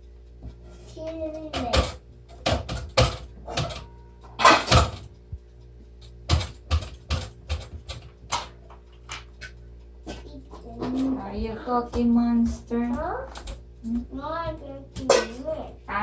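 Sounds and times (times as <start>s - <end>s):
steady low hum: 0.0s - 16.0s
sharp knocks and clicks: 0.3s - 11.2s, 11.8s - 15.6s.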